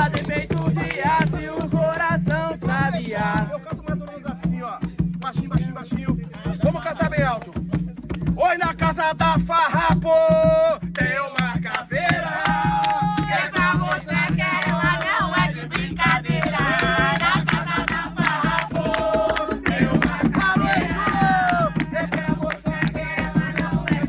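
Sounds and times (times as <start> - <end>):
person singing loudly: 0.0 - 4.6, 8.4 - 24.0
hand drums beating fast: 0.0 - 24.0.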